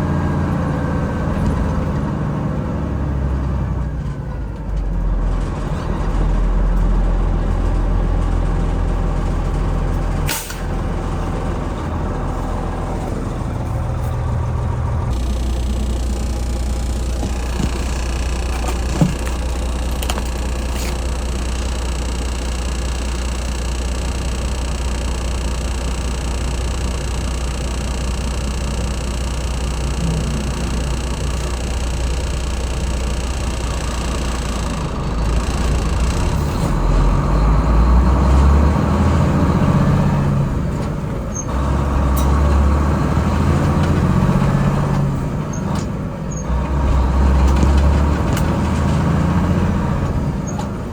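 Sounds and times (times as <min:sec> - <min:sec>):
truck engine rumbling: 0:00.0 - 0:50.9.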